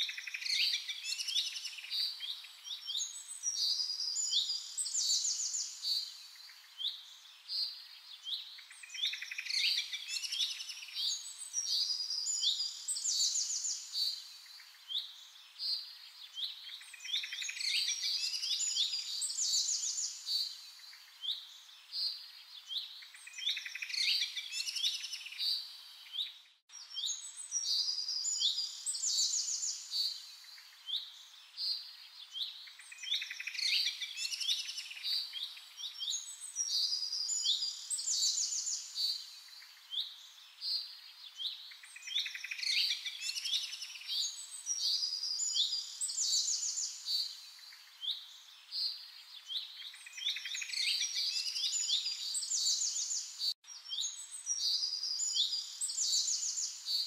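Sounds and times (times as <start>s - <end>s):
faint steady hiss: 0.0s - 57.0s
songbirds chirping and trilling: 0.0s - 57.0s.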